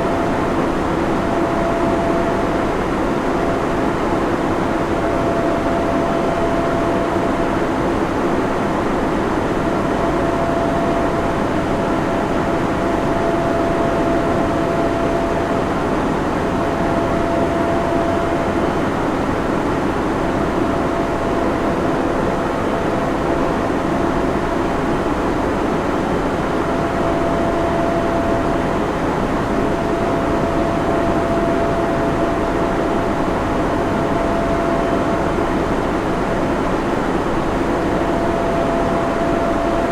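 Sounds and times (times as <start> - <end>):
cooling fans rushing: 0.0 - 39.9
faint steady whine: 0.0 - 39.9.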